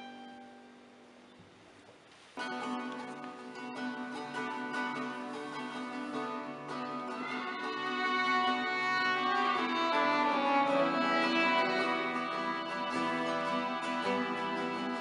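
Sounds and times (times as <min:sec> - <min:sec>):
plucked strings: 0:00.0 - 0:01.0, 0:02.4 - 0:15.0
bowed string melody: 0:02.4 - 0:15.0.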